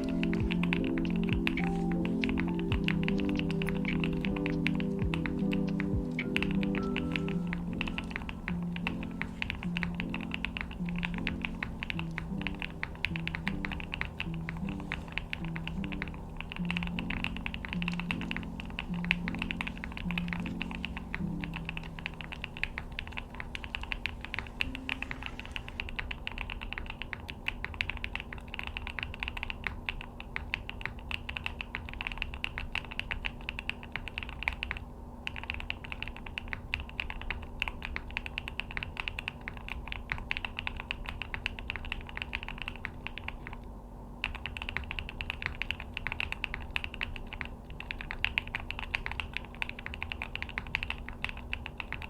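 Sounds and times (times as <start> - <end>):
mechanical keyboard typing: 0.0 - 52.0.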